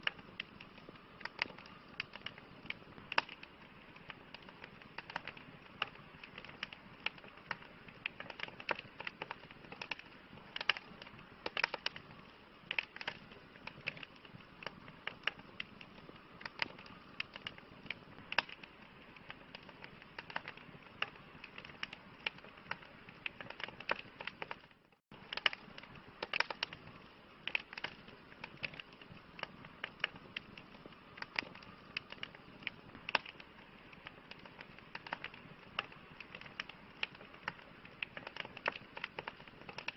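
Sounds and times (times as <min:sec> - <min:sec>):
campfire snapping and popping: 0:00.0 - 0:39.9
soft steady hiss: 0:00.0 - 0:39.9.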